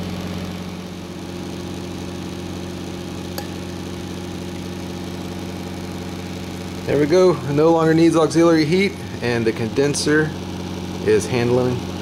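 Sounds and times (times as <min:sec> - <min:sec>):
electrical hum and fan motor: 0:00.0 - 0:12.0.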